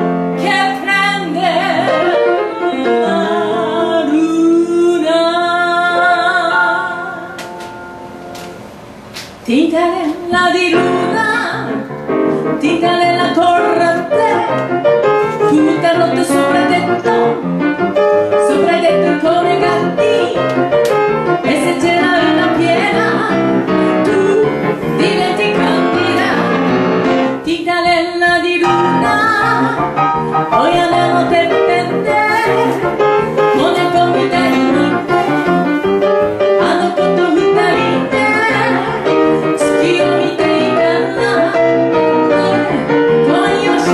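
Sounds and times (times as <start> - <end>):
grand piano accompaniment: 0.0 - 43.9
woman singing into a microphone: 0.4 - 7.6, 9.5 - 17.5, 18.3 - 26.7, 27.3 - 35.5, 36.5 - 43.9.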